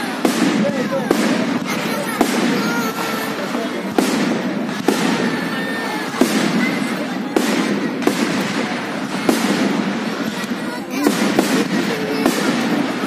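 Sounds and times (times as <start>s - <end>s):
firework bangs: 0.0s - 13.0s
fireworks crackling: 0.0s - 13.0s.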